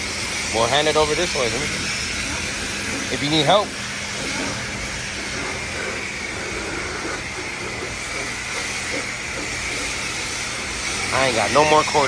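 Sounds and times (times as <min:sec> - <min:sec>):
pressure washer spray hissing: 0:00.0 - 0:12.0.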